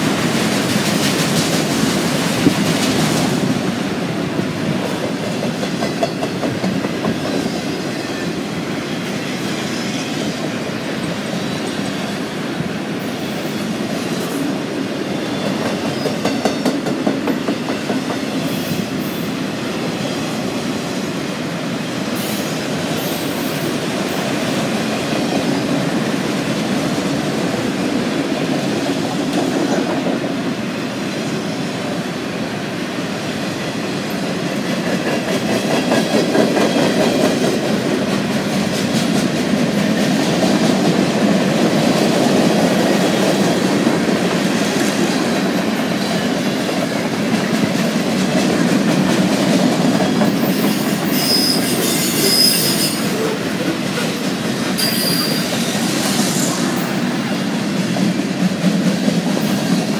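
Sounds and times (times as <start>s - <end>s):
freight train wheels rumbling on rail: 0.0s - 59.9s.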